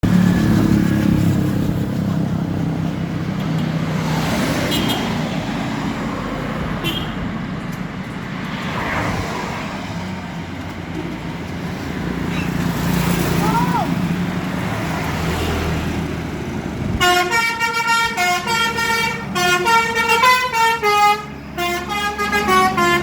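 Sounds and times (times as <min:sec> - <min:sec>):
bus engine hum: 0:00.0 - 0:23.0
tyre and traffic noise: 0:00.0 - 0:23.0.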